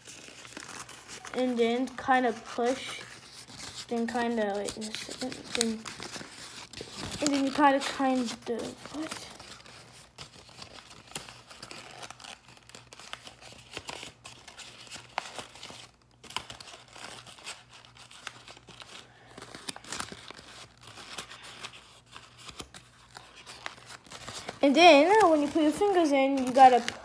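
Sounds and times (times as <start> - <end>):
paper rustling and crinkling: 0.0 - 27.0.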